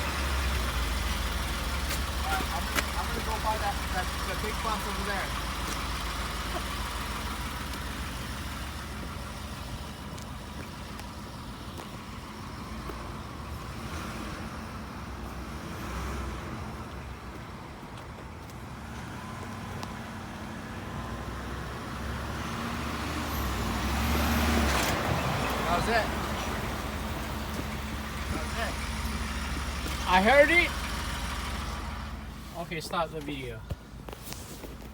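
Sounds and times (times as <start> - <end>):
pickup truck engine: 0.0 - 34.9.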